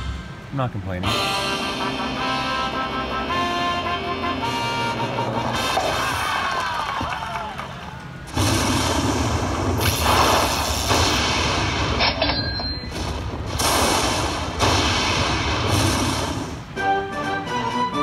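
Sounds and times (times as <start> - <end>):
slot machine booming bursts: 0.0 - 6.6, 8.2 - 17.0.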